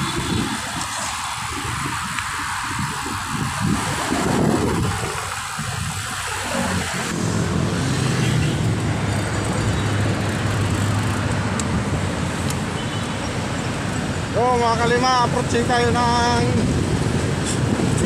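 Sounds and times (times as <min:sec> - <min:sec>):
wind noise on microphone: 0:00.0 - 0:13.1, 0:15.6 - 0:18.0
road traffic noise: 0:00.0 - 0:18.0.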